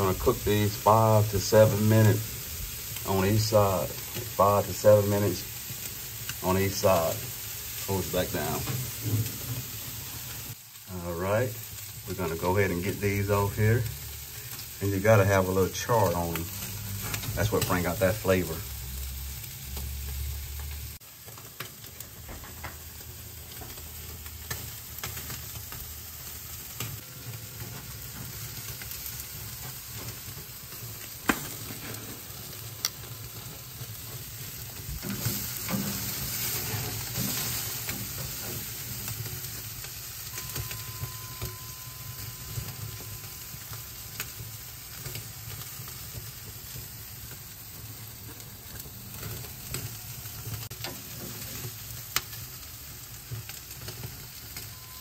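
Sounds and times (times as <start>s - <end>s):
meat sizzling on a grill: 0.0s - 55.0s.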